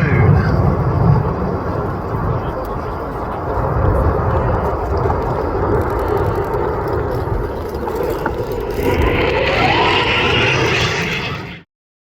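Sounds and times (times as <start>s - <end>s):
jet fly-by rumble: 0.0s - 11.7s
jet whine: 0.0s - 11.7s.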